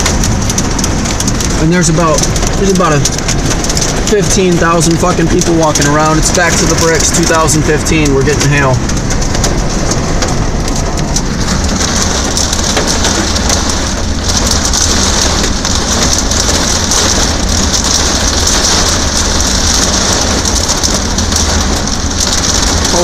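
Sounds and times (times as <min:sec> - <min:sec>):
hail pelting car roof and windshield: 0:00.0 - 0:23.0.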